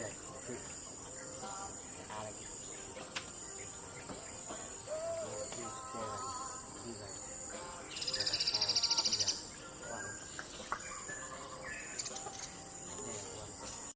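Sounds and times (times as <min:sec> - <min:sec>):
insect buzz: 0:00.0 - 0:13.9
woodpecker trill: 0:00.0 - 0:13.9.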